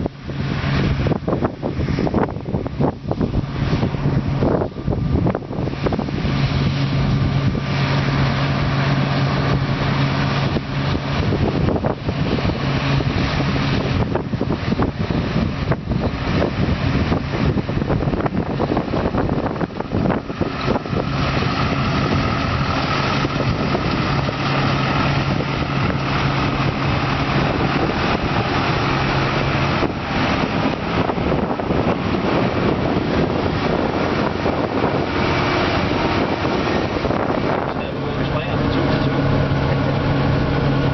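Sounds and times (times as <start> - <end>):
harvester engine running: 0.0 - 40.9
wind noise on microphone: 0.0 - 40.9.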